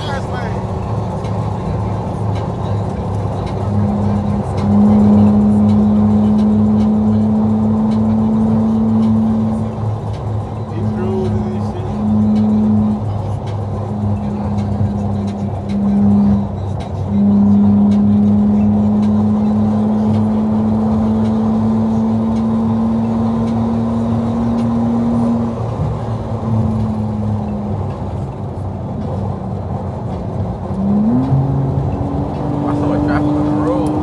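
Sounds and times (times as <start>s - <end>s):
car engine and loud exhaust: 0.0s - 34.0s.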